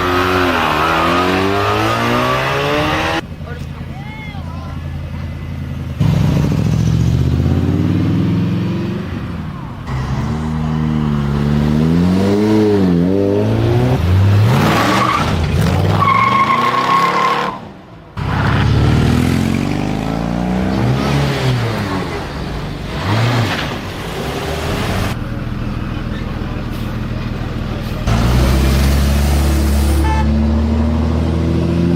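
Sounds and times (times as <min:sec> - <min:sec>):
car engines revving hard: 0:00.0 - 0:03.8, 0:05.0 - 0:31.9.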